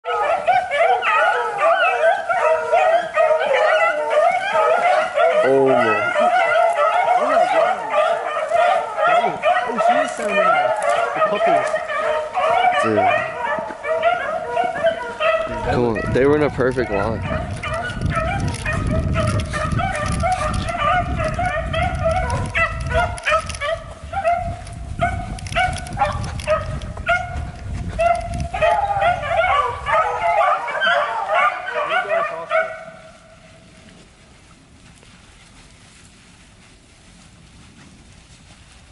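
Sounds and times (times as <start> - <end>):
pack of dogs baying: 0.0 - 33.7.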